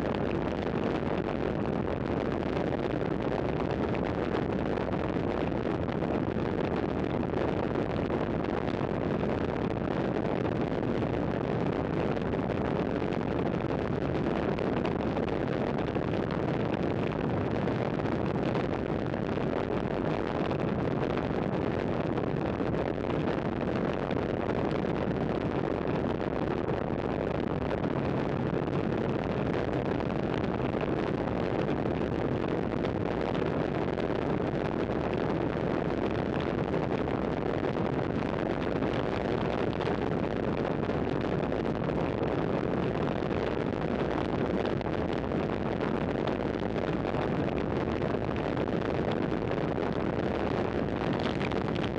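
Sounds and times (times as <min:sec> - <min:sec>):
wind rush on microphone: 0:00.0 - 0:51.9.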